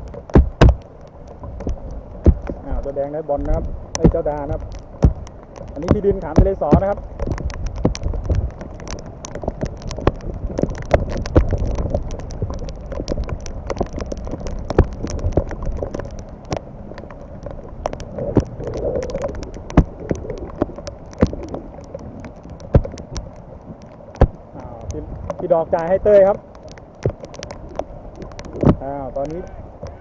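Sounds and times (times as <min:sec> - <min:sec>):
rain falling: 0:00.0 - 0:30.0
raindrops tapping near microphone: 0:00.0 - 0:30.0
steady low rumble: 0:00.0 - 0:30.0.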